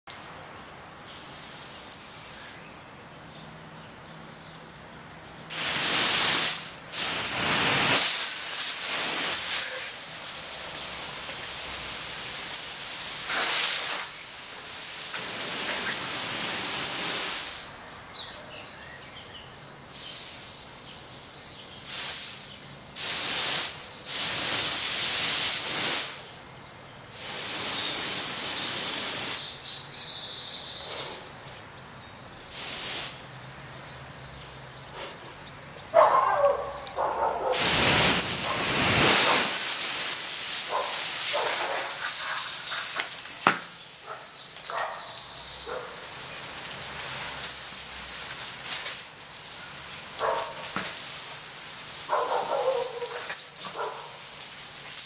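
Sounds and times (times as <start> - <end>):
birds chirping: 0.1 - 24.6, 26.2 - 54.2
loud hissing noise: 1.0 - 3.1, 5.3 - 17.9, 19.8 - 31.4, 32.4 - 35.2, 37.5 - 55.0.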